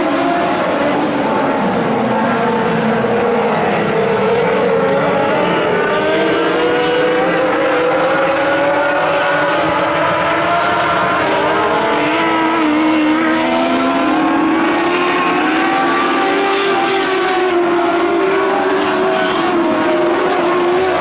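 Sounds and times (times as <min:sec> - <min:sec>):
race car engines: 0:00.0 - 0:21.0.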